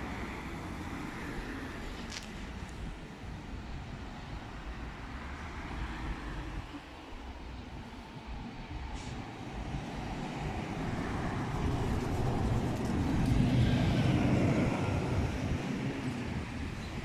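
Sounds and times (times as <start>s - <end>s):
bus driving past: 0.0s - 17.0s.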